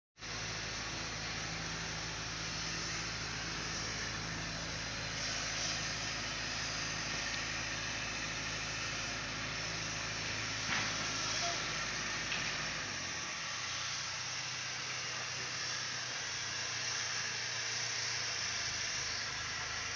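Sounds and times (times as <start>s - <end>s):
crane diesel engine running: 0.2s - 19.9s
steady hiss: 0.2s - 19.9s.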